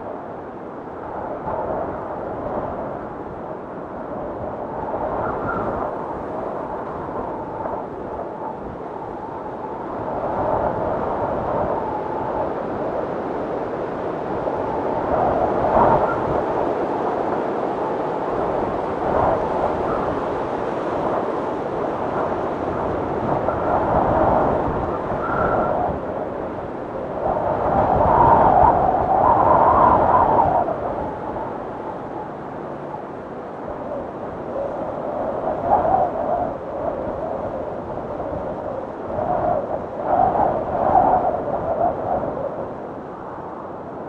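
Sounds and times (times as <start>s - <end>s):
blizzard wind howling: 0.0s - 44.0s.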